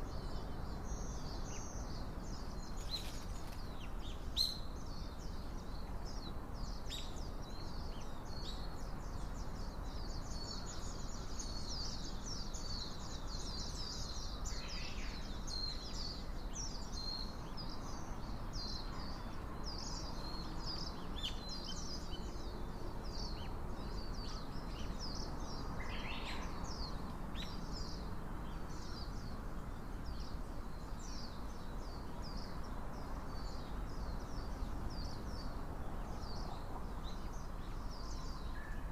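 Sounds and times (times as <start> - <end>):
low background hiss: 0.0 - 38.9
songbirds chirping: 0.0 - 38.9.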